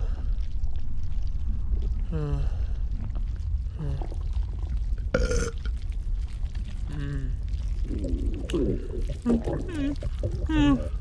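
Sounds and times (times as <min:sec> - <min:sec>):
stomach gurgling and sloshing: 0:00.0 - 0:11.0.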